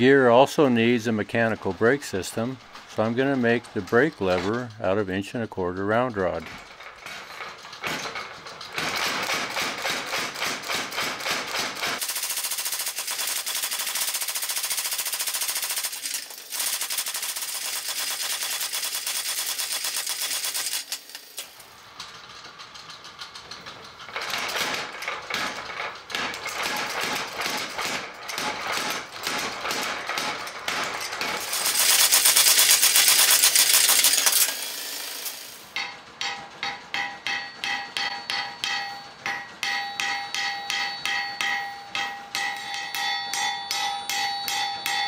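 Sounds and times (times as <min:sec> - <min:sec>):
power hammer striking steel: 0:00.0 - 0:21.6, 0:24.1 - 0:45.0.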